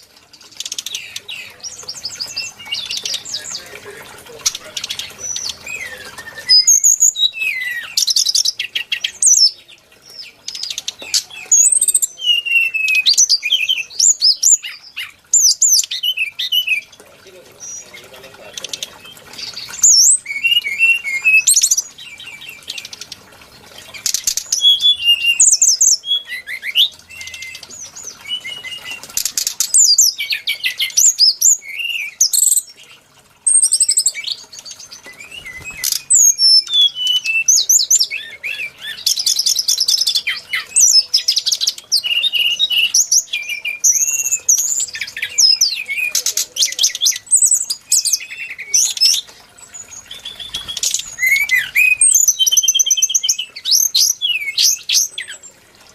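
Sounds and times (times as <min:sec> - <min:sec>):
bird singing chirps and trills: 0:00.0 - 0:55.9.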